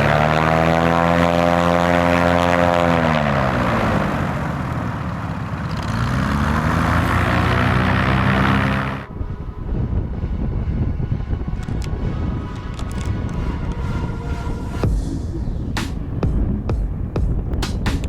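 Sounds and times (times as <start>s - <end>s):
twin propeller aircraft engines droning: 0.0s - 18.0s.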